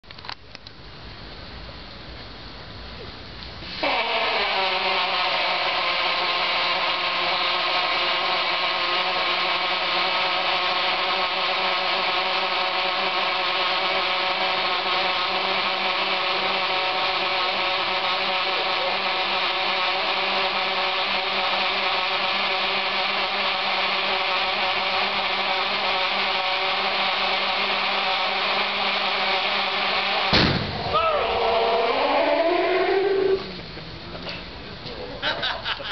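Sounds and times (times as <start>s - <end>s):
gas hissing into raft: 3.6s - 33.7s.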